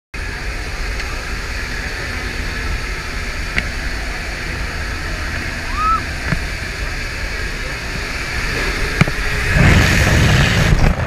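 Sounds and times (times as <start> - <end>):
airplane engine roar: 0.1 - 11.0
rising-and-falling tone: 0.3 - 10.0.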